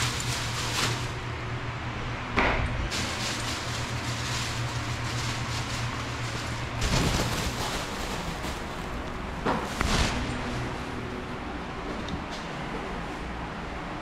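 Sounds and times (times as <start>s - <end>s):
shower room hum and hiss: 0.0s - 14.0s.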